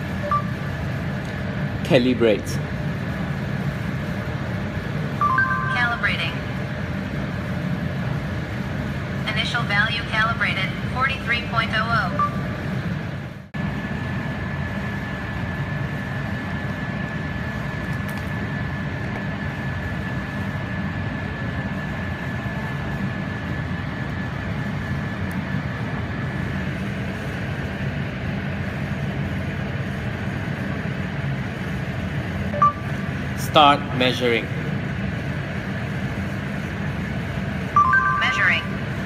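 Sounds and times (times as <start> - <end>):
high-pitched whine: 0.0 - 39.0
low mechanical rumble: 0.0 - 39.0.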